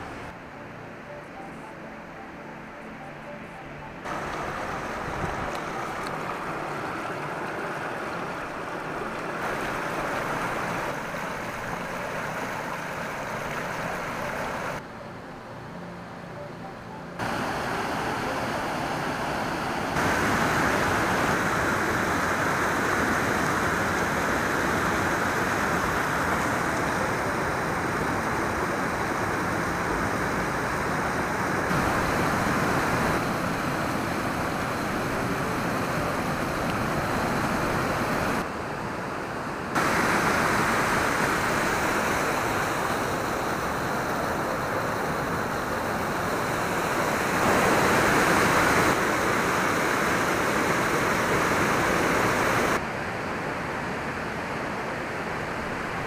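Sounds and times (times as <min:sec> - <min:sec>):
creek water rushing over rocks: 0:04.0 - 0:14.8, 0:17.2 - 0:56.0.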